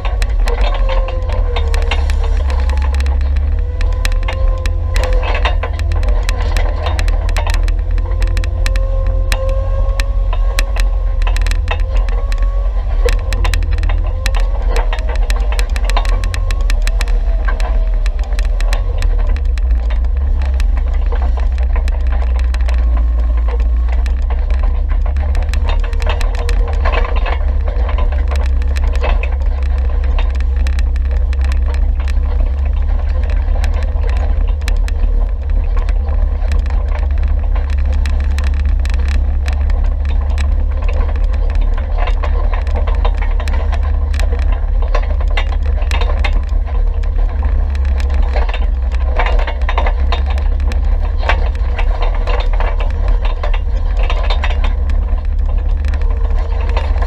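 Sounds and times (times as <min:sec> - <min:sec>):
rattles over loose rock: 0:00.0 - 0:57.0
wind buffeting microphone: 0:00.0 - 0:57.0.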